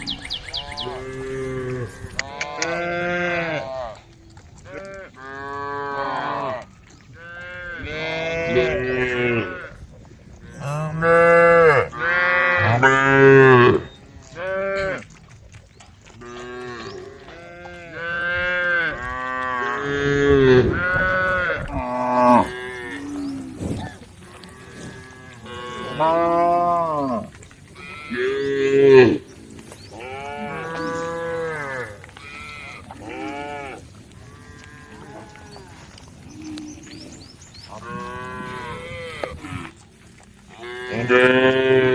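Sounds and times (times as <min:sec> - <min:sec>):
cows mooing: 0:00.1 - 0:04.0, 0:07.2 - 0:09.8, 0:10.4 - 0:15.1, 0:16.2 - 0:41.9.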